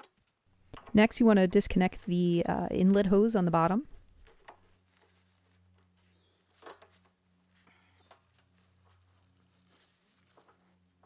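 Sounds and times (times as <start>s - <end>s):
low steady hum: 0.2s - 11.0s.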